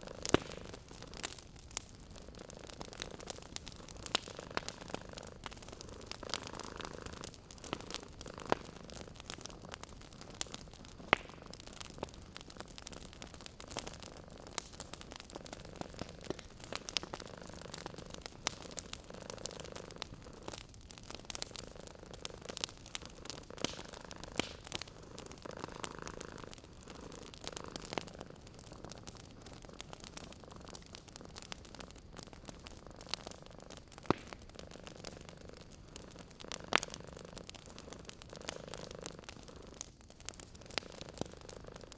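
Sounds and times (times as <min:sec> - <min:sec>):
cat purring: 0:00.0 - 0:41.9
wood fire crackling and popping: 0:00.0 - 0:41.9.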